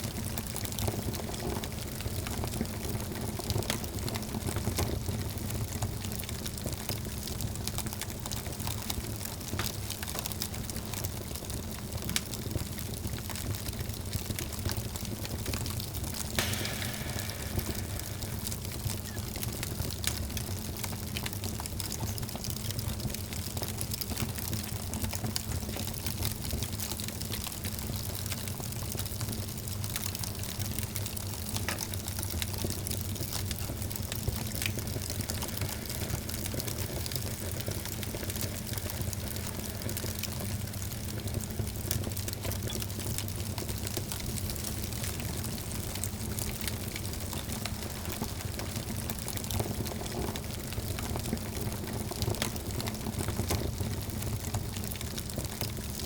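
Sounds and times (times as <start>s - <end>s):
low fire rumble: 0.1s - 56.0s
wood fire crackling and popping: 0.1s - 56.0s.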